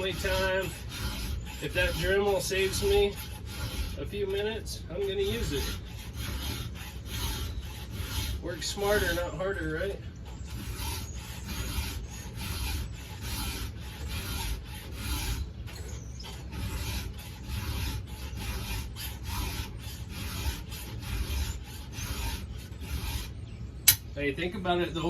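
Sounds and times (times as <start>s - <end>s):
file rasping on chain: 0.0s - 24.1s.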